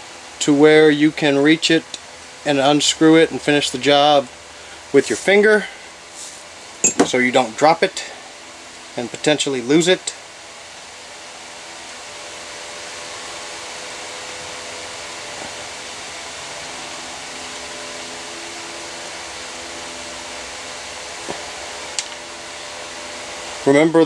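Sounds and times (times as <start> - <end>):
steady airy hiss: 0.0 - 24.0.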